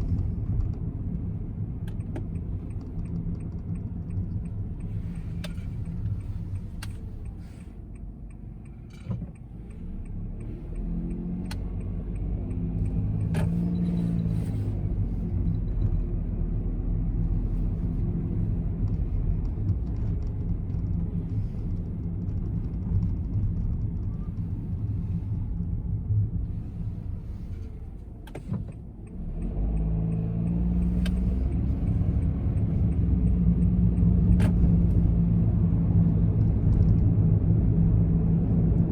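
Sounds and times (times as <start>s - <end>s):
car engine from inside cabin: 0.0s - 38.9s
road rumble: 0.0s - 38.9s.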